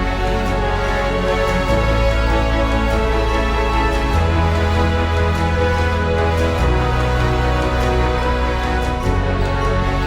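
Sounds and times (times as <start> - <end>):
background music with chords: 0.0 - 10.0
steady bass line: 0.0 - 10.0.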